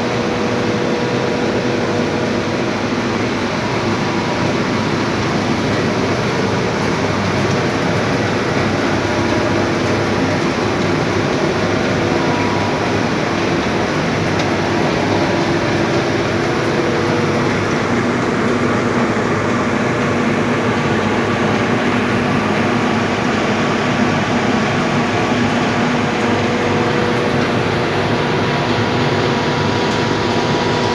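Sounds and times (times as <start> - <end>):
machinery running: 0.0 - 30.9
steady hums: 0.0 - 30.9.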